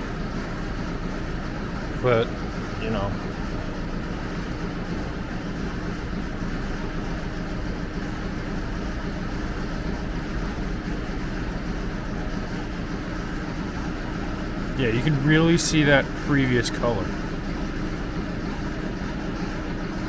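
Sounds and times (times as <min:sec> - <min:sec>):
machine droning with low hum: 0:00.0 - 0:20.0.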